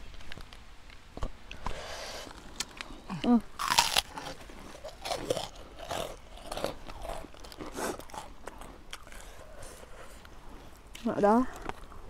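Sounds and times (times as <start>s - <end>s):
person chewing crunchy cracker: 1.6s - 12.0s.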